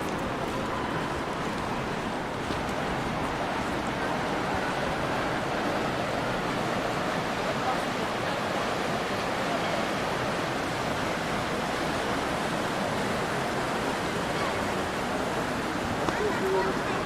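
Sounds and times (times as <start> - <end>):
faint voices: 0.0 - 17.0
steady rushing noise: 0.0 - 17.0.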